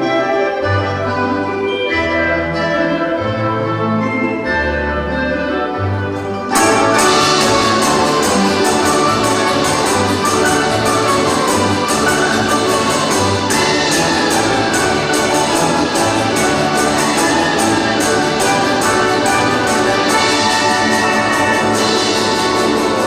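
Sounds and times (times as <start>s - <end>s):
folk instrument orchestra playing: 0.0s - 23.0s.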